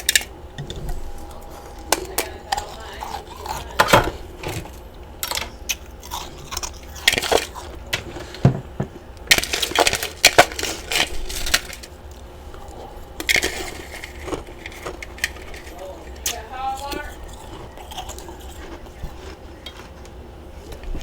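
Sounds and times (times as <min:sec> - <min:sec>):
chewing crunchy ice: 0:01.1 - 0:08.3, 0:09.3 - 0:21.0.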